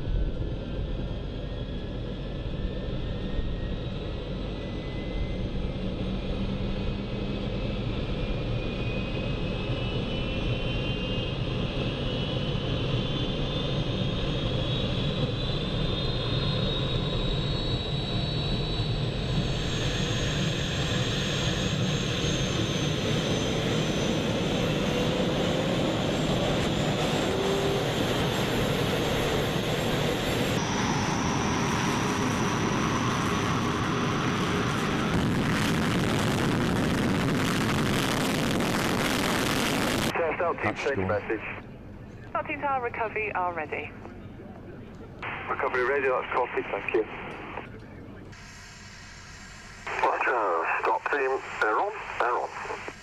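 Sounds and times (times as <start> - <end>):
jet engine rumble: 0.0 - 53.0
jet engine turbine whine: 0.0 - 53.0.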